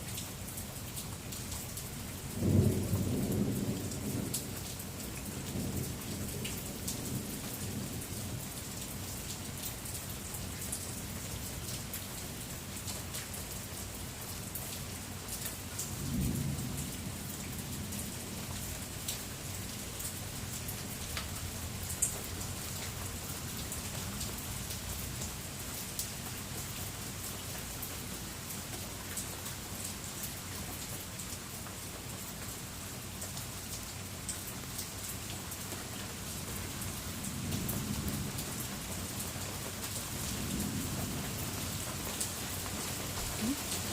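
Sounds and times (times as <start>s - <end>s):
heavy rain pattering: 0.0s - 43.9s.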